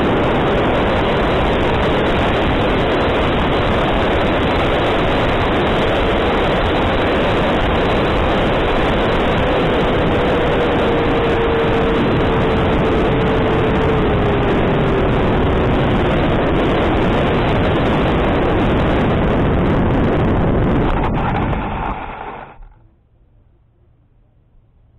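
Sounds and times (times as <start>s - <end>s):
ducted-fan motor rushing: 0.0s - 22.9s.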